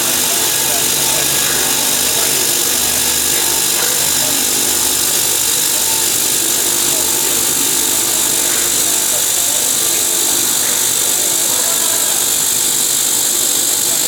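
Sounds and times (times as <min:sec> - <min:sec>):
low machine hum: 0:00.0 - 0:14.0
metal saw cutting hiss: 0:00.0 - 0:14.0.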